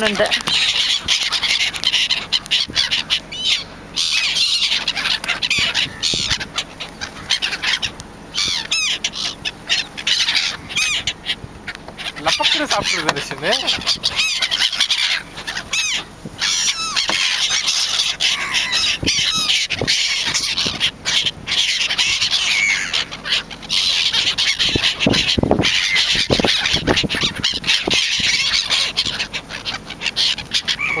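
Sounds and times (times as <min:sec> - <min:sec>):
gulls calling: 0:00.0 - 0:31.0.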